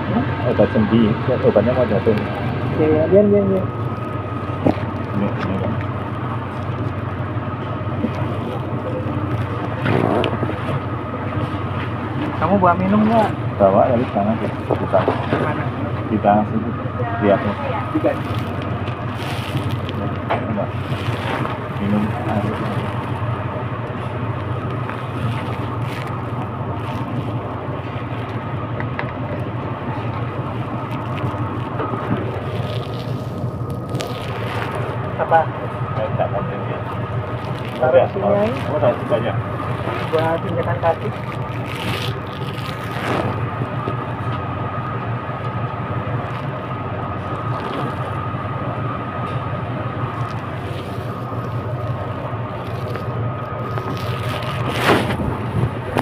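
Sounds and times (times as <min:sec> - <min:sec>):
constant high whine: 0:00.0 - 0:56.0
train rumbling: 0:00.0 - 0:56.0.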